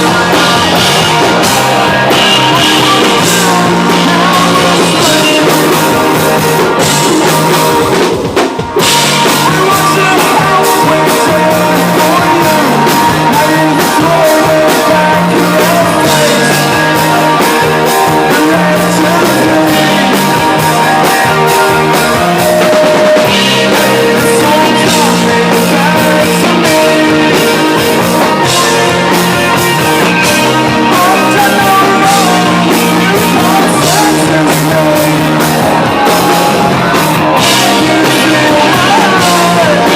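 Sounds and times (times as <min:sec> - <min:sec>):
person singing: 0:00.0 - 0:08.1, 0:08.8 - 0:39.9
live rock band playing: 0:00.0 - 0:39.9.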